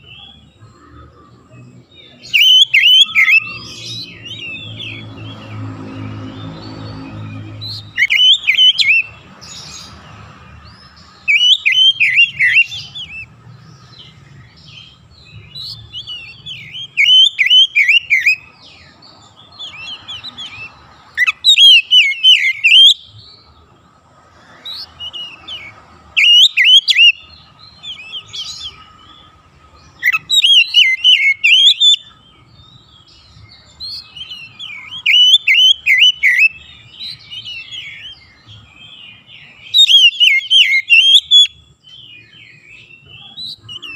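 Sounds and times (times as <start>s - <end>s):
bird singing whistled notes: 1.6s - 10.0s, 10.6s - 23.6s, 24.6s - 43.9s.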